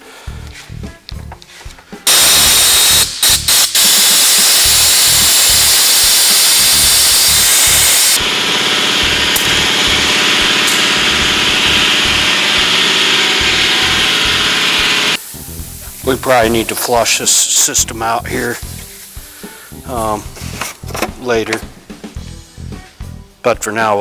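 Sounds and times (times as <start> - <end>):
compressed air hissing: 1.5 - 22.2.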